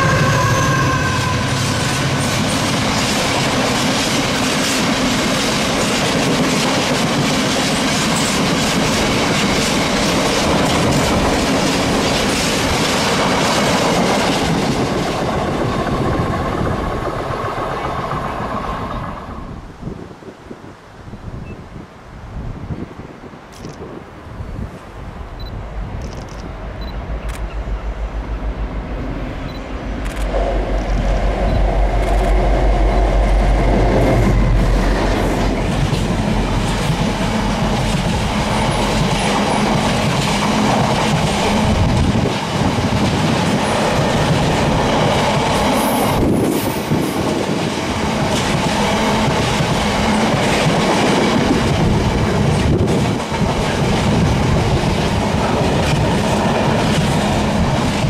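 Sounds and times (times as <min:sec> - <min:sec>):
diesel locomotive engine hum: 0:00.0 - 0:19.8, 0:24.3 - 0:58.0.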